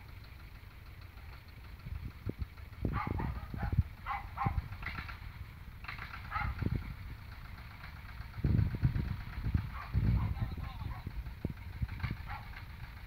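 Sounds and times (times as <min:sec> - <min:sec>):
small tractor engine running unevenly: 0:00.0 - 0:13.0.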